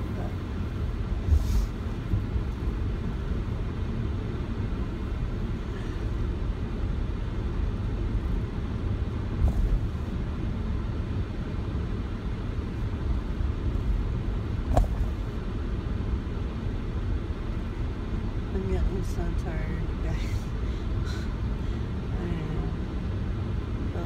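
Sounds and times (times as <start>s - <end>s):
moving car rumble: 0.0s - 24.0s.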